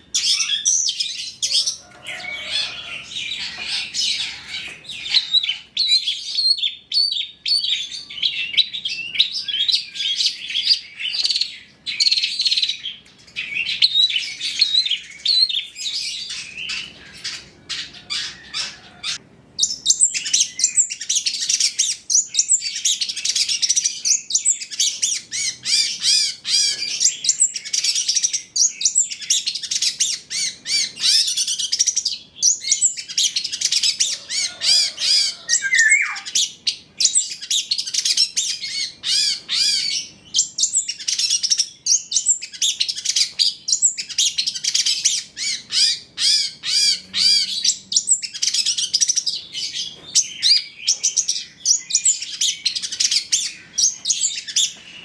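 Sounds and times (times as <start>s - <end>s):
bird singing chirps and twitters: 0.0s - 55.0s.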